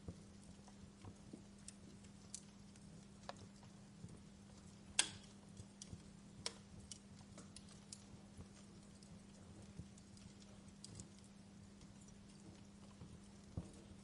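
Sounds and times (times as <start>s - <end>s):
faint low hum: 0.0s - 14.0s
wood fire crackling: 0.0s - 14.0s.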